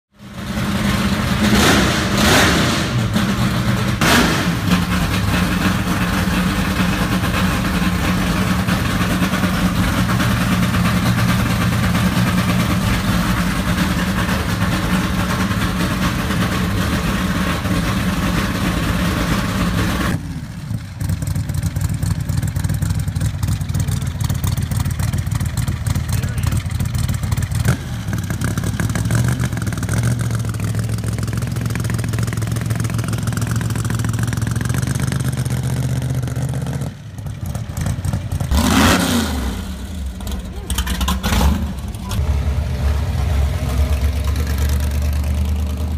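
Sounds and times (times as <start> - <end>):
car engine revving and idling: 0.1 - 45.9
car engine idling lumpily: 3.0 - 38.5, 39.7 - 45.9.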